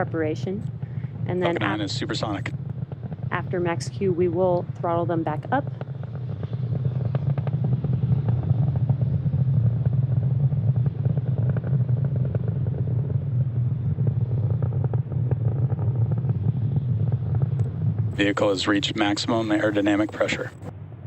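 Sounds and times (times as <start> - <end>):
rocket engines rumbling and crackling: 0.0 - 21.0.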